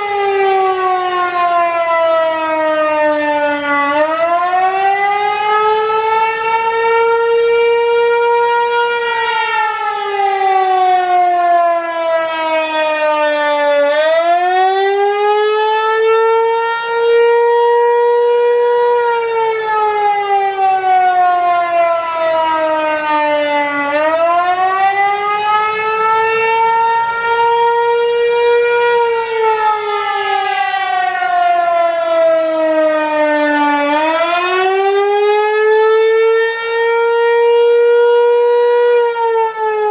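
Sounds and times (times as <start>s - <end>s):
warning siren wavering: 0.0s - 39.9s.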